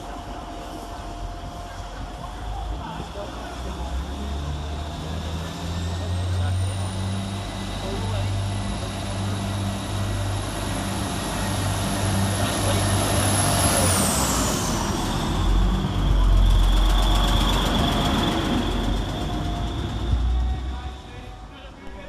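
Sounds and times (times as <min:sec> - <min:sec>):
train engine low drone: 0:00.0 - 0:22.0.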